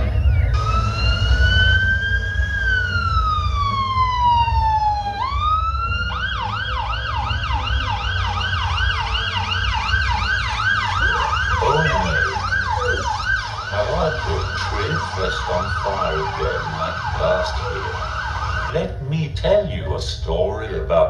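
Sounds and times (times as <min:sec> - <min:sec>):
emergency vehicle siren: 0:00.0 - 0:20.8.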